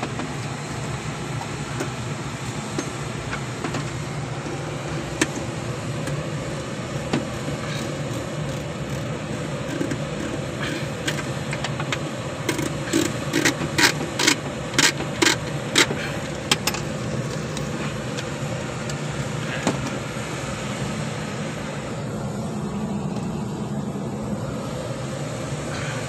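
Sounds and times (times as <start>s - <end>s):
cockpit machine hum: 0.0s - 26.0s.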